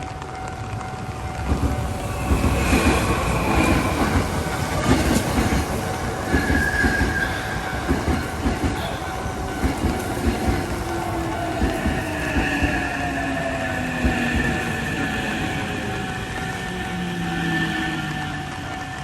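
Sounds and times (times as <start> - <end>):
electric train passing: 0.0 - 19.0
wheels clattering over rail joints: 0.1 - 19.0.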